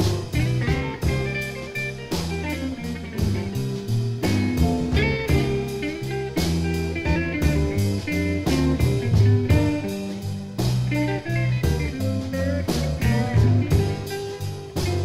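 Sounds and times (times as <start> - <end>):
blues band playing: 0.0 - 15.0
drum hits: 0.0 - 15.0
electric guitar: 0.0 - 15.0.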